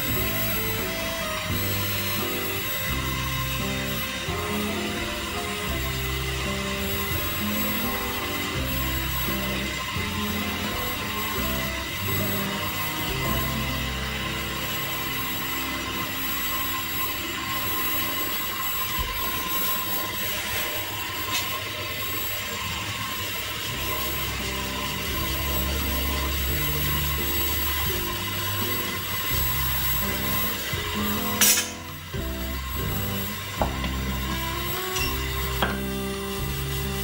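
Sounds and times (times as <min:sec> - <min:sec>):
slow low sustained music: 0:00.0 - 0:37.0
steady hiss: 0:00.0 - 0:37.0.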